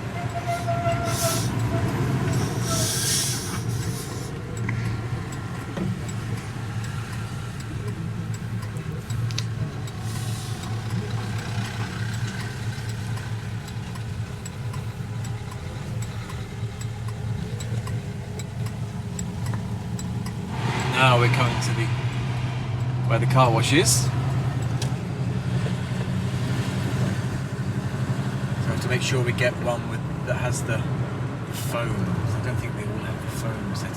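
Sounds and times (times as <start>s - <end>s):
car engine and road drone: 0.0s - 33.9s.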